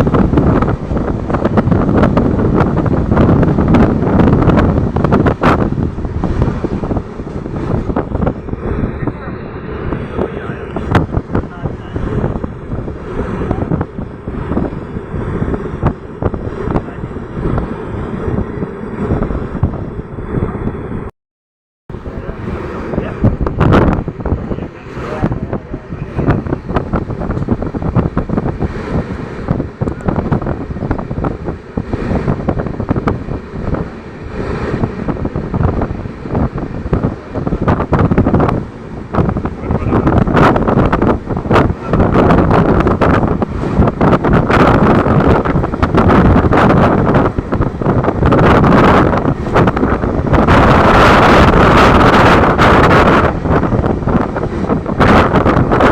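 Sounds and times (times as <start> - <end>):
train rumbling: 0.0 - 21.1, 21.9 - 55.9
wind buffeting microphone: 0.0 - 21.1, 21.9 - 55.9.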